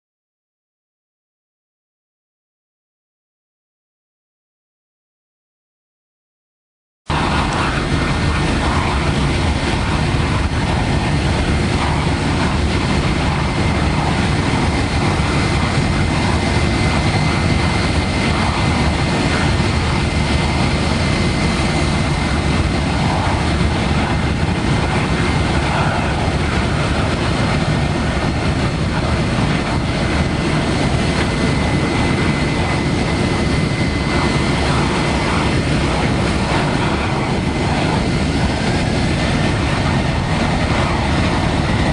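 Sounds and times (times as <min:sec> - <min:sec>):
high steady engine whine: 0:07.1 - 0:41.9
jet engines rumbling: 0:07.1 - 0:41.9.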